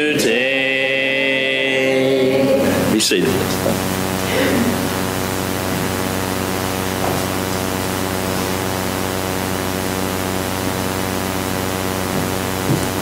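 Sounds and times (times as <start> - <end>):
low even hum: 0.0 - 13.0
steady hiss: 2.5 - 13.0.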